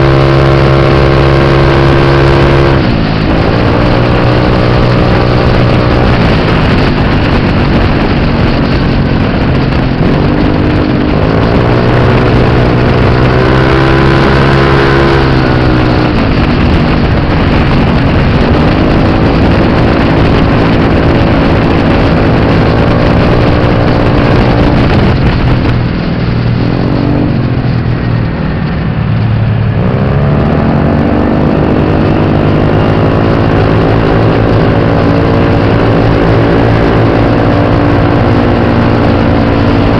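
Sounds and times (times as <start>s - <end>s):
scooter engine running hard: 0.0s - 39.9s.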